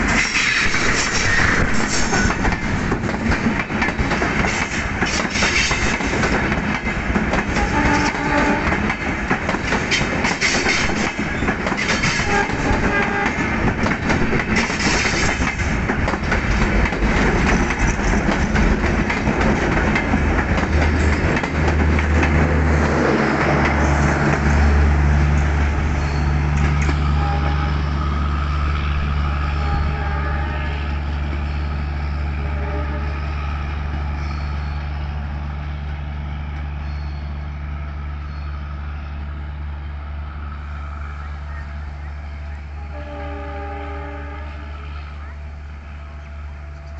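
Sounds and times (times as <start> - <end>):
train passing at speed: 0.0 - 46.9.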